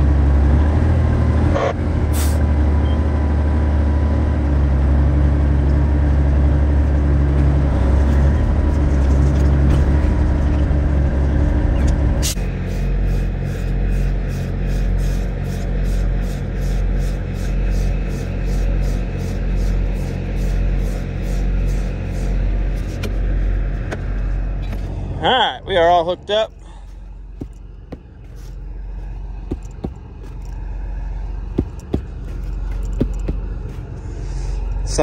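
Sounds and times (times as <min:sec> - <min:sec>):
diesel truck engine rumbling: 0:00.0 - 0:35.0.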